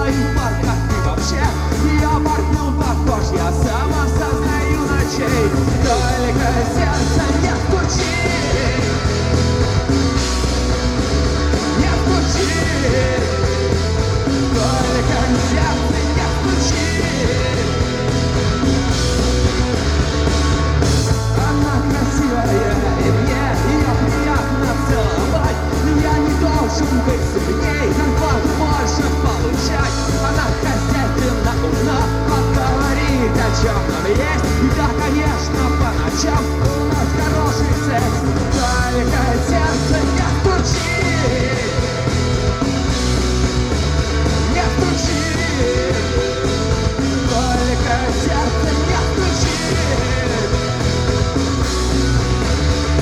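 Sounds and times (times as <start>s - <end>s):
person singing: 0.0s - 10.0s, 11.6s - 18.3s, 21.3s - 42.6s, 44.4s - 51.2s
live rock band: 0.0s - 53.0s.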